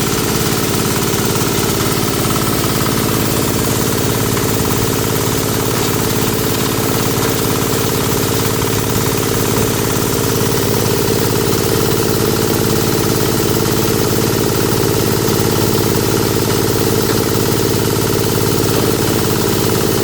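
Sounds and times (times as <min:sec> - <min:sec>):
grinder machine pulsing hum: 0:00.0 - 0:20.0.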